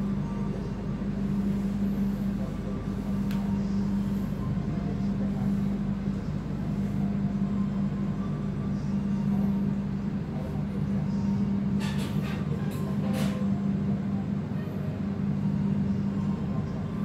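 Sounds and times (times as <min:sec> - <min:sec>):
train running hum and rumble: 0:00.0 - 0:17.0.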